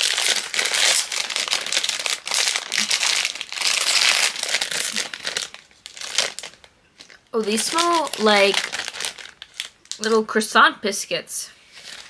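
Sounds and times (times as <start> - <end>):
plastic bag torn open crinkling: 0.0 - 10.4.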